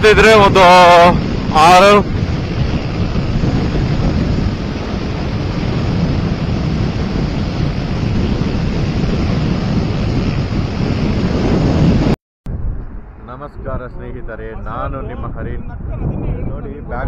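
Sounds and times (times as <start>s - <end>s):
road and engine rumble: 0.0s - 16.9s
wind rushing over microphone: 0.0s - 17.0s.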